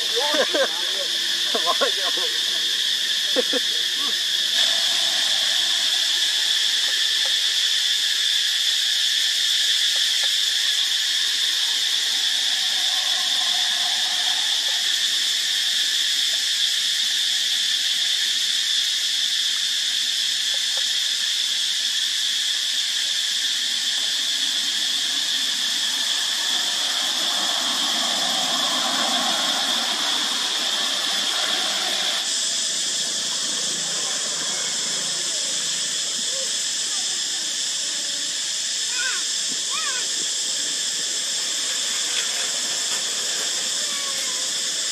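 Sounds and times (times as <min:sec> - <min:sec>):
cicadas droning: 0:00.0 - 0:44.9.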